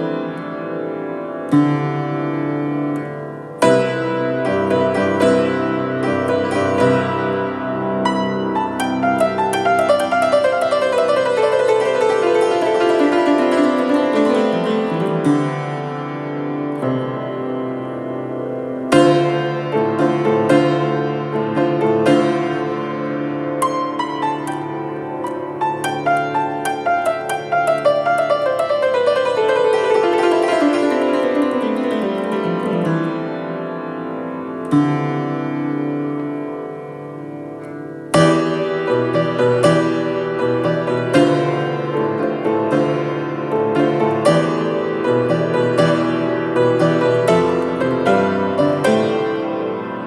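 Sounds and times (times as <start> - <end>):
keyboard music: 0.0 - 50.0.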